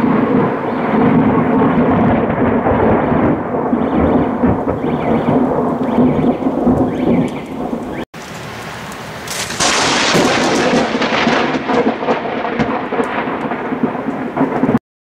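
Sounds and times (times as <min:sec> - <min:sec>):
crackling peal of thunder: 0:00.0 - 0:14.8
thunder rumbling: 0:00.0 - 0:14.8.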